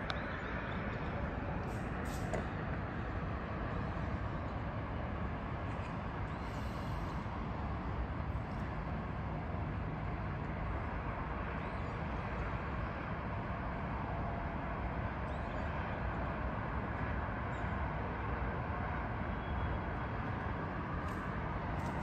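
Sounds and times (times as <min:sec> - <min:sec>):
distant city traffic hum: 0:00.0 - 0:22.0.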